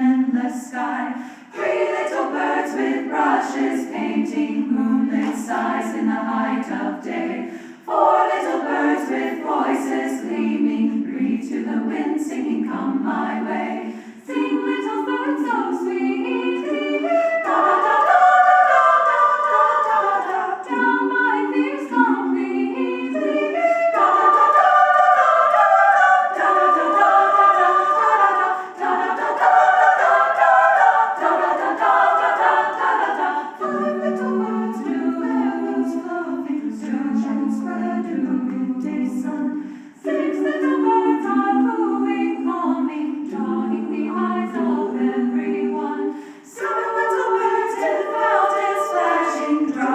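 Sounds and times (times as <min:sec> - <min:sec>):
mixed choir singing a cappella: 0:00.0 - 0:49.9.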